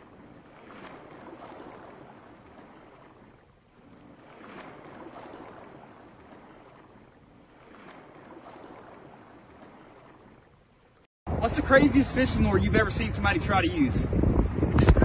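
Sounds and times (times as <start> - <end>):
ocean waves washing in: 0.0 - 13.5.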